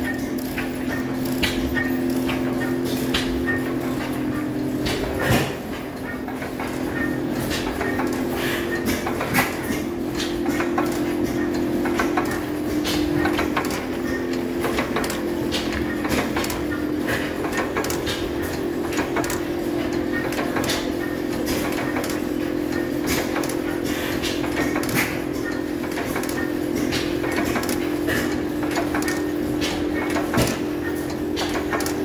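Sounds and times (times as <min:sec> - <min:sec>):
stationary engines running: 0:00.0 - 0:32.0.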